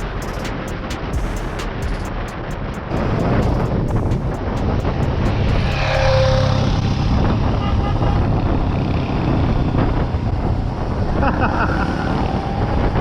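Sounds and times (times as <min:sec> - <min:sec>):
vehicle passing by: 0:00.0 - 0:13.0
wind and tyre rumble: 0:00.0 - 0:13.0.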